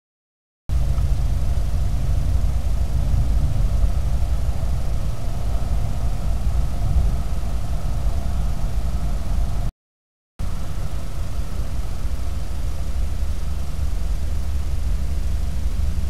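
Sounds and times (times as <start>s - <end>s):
faint even whine: 0.7s - 9.7s, 10.4s - 16.0s
low droning hum: 0.7s - 9.7s, 10.4s - 16.0s.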